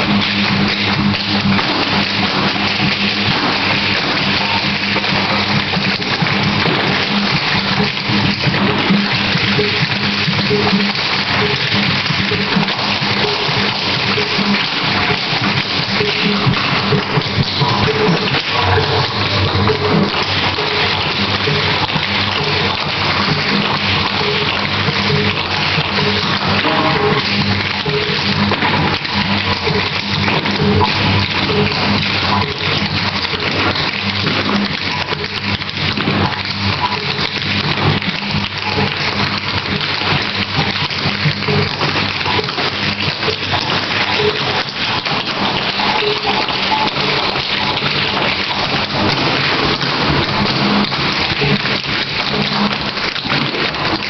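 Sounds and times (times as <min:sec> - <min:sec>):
background music with low notes: 0:00.0 - 0:54.0.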